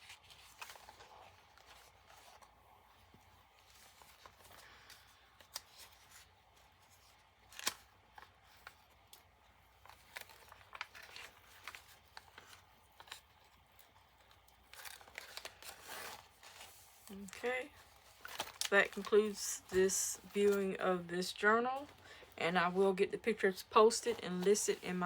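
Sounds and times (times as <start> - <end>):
paper pages rustling: 0.0 - 22.4, 23.2 - 25.0.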